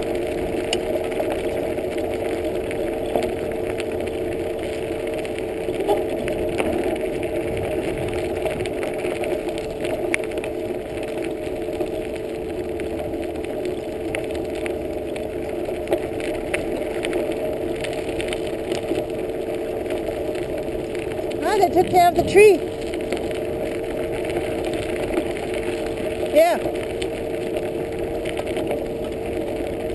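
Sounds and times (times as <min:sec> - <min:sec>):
bicycle tyres rolling on gravel: 0:00.0 - 0:29.9.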